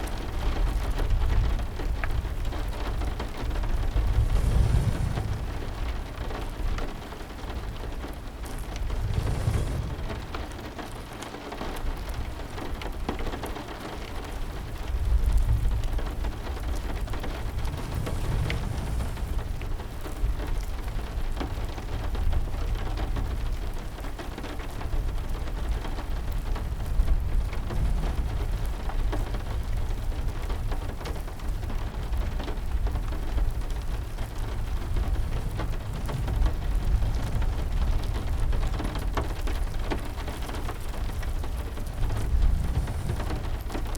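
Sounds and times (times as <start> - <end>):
heavy rain: 0.0 - 43.9
deep thunder rumbles: 0.9 - 12.7, 14.3 - 23.8, 24.8 - 43.9.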